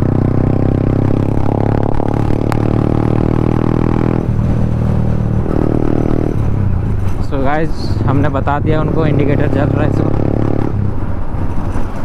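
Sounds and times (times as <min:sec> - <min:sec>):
motorcycle engine under throttle: 0:00.0 - 0:07.2, 0:07.8 - 0:12.0.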